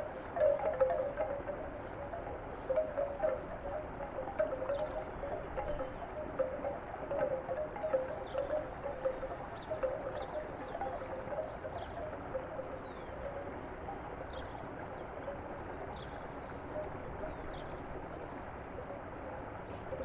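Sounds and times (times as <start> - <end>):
bamboo wind chime clacks: 0.0 - 17.6
water flowing: 0.0 - 20.0.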